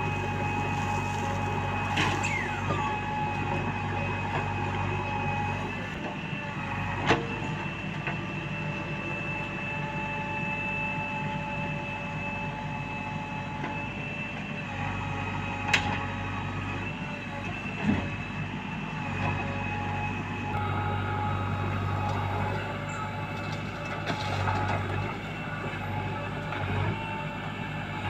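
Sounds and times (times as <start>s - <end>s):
diesel machinery engine running: 0.0s - 28.0s.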